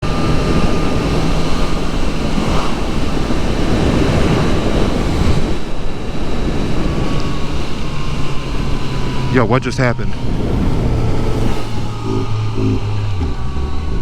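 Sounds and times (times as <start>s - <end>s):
motorcycle engine low note: 0.0s - 14.0s
wind rushing over microphone: 0.0s - 14.0s.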